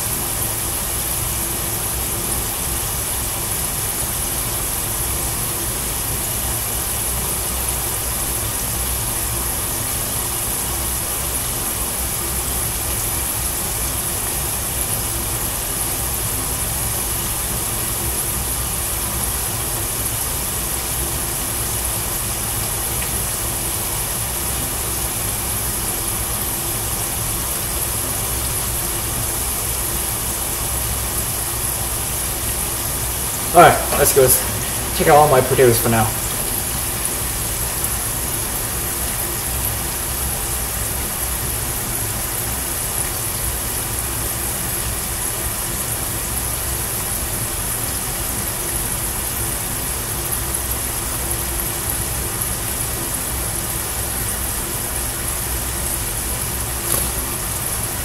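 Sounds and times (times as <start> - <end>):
fries hissing in hot oil: 0.0 - 34.0, 36.4 - 58.0.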